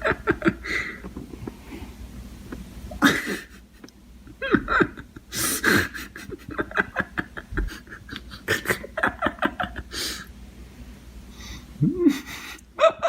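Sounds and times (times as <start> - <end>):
person laughing breathlessly: 0.0 - 1.8, 3.0 - 10.3, 11.4 - 13.0.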